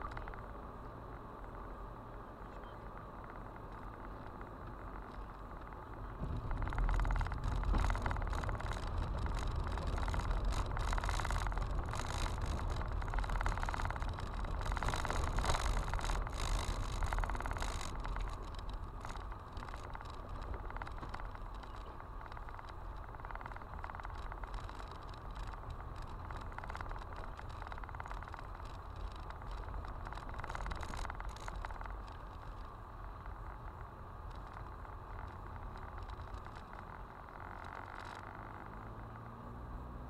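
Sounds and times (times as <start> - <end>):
gravel crackling under tyres: 0.0 - 40.0
tyre and road rumble: 0.0 - 40.0.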